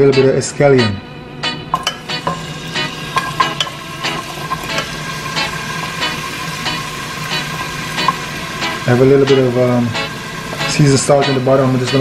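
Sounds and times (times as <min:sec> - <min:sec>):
vegetables sizzling in oil: 0:01.8 - 0:12.0.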